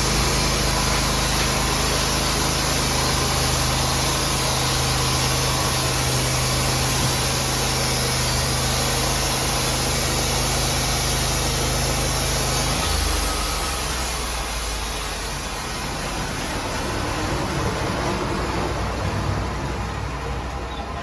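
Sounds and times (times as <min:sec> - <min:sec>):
sawmill engine humming with hiss: 0:00.0 - 0:21.0.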